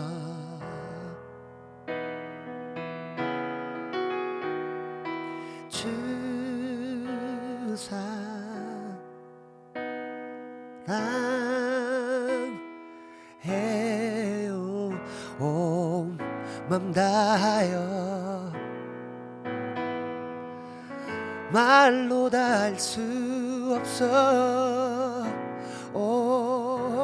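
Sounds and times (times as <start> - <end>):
gentle piano chords: 0.0 - 27.0.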